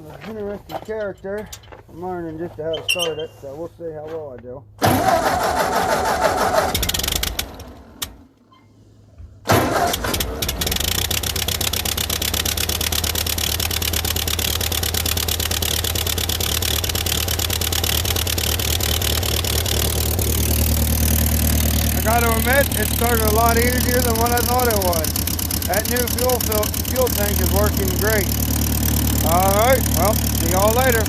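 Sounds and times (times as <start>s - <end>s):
tractor engine starting and running: 4.7s - 31.0s.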